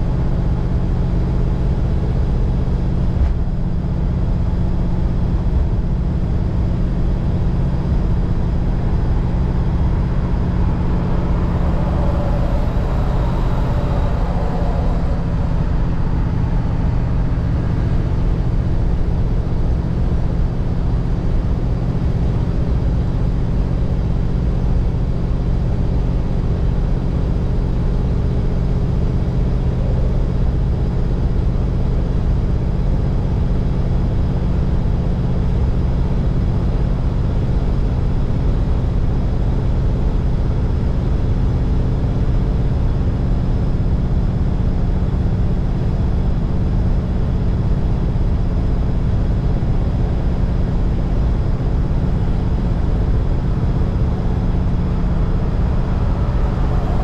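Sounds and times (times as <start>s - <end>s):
car engine running steadily: 0.0s - 57.0s.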